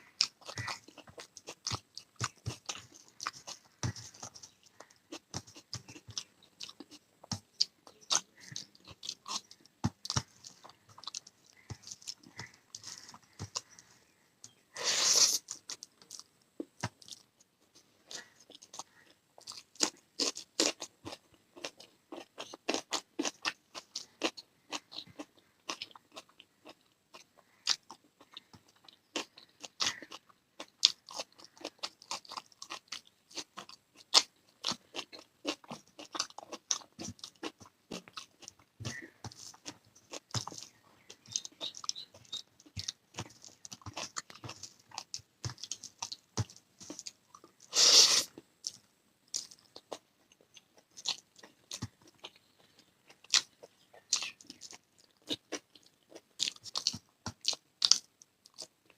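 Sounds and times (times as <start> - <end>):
person chewing and crunching food: 0.0 - 58.9.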